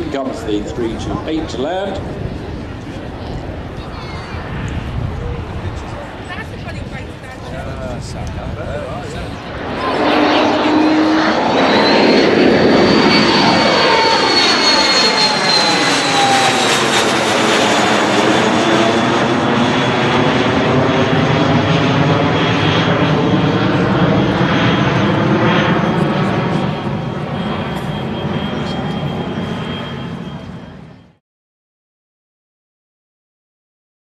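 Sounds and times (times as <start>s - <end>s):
airliner flying past: 0.0s - 31.2s.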